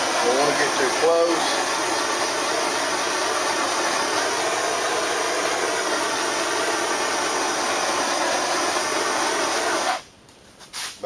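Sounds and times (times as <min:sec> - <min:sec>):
propane torch flame hissing: 0:00.0 - 0:10.1.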